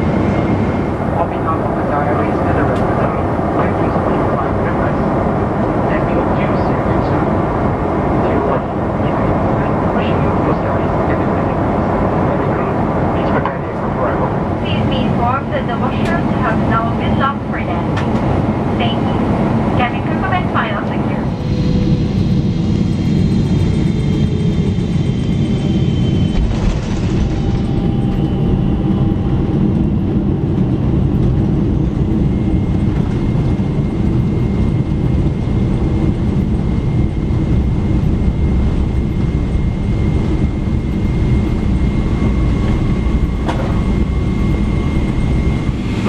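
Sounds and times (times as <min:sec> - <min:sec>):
airliner rolling rumble: 0:00.0 - 0:46.0
jet engine whines: 0:00.0 - 0:46.0.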